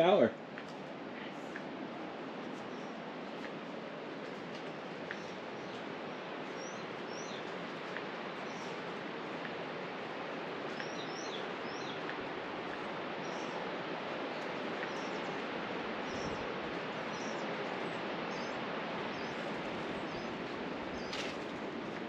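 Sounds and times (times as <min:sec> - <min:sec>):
small birds chirping: 0:00.0 - 0:22.0
steady rushing noise: 0:00.0 - 0:22.0.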